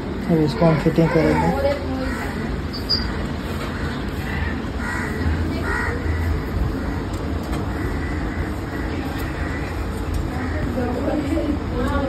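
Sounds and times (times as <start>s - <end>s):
low background hum: 0.0s - 12.0s
crow cawing: 0.5s - 11.0s.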